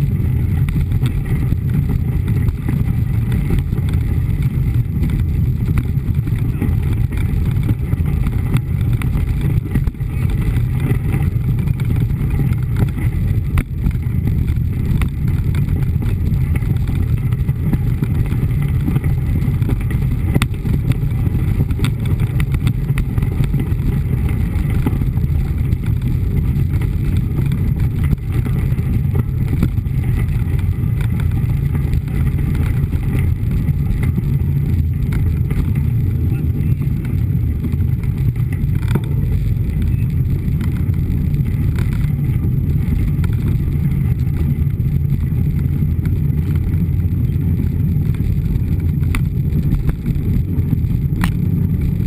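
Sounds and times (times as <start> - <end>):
bike knocks and rattles: 0.0 - 52.0
bike tyre rumbling on gravel: 0.0 - 52.0.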